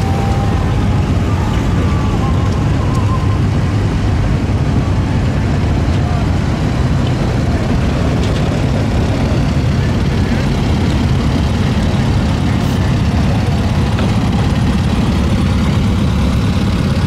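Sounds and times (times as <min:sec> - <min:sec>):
car engines rumbling past: 0:00.0 - 0:17.0.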